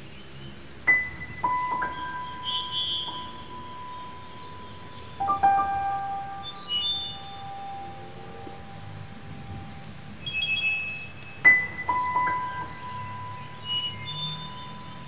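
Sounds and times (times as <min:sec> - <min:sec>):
bell-like music notes: 0:00.9 - 0:15.0.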